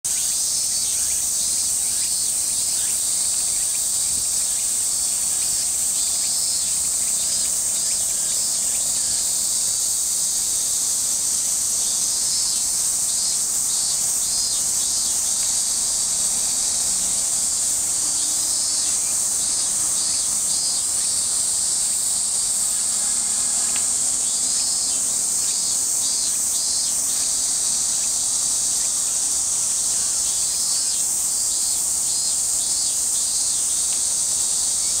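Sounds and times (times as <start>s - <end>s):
insects chorus with pulsing trill: 0.1s - 35.0s.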